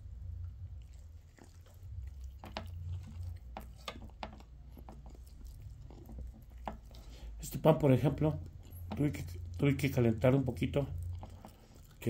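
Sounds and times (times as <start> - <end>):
person chewing: 0.3 - 7.4, 8.0 - 12.0.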